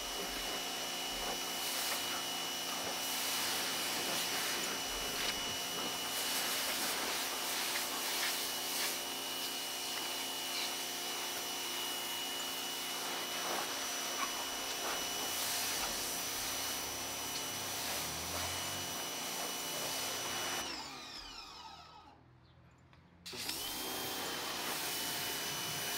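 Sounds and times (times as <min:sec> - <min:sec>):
water jet spraying on pavement: 0:00.0 - 0:20.6, 0:23.3 - 0:25.9
pressure washer motor humming: 0:00.0 - 0:22.1, 0:23.3 - 0:25.9.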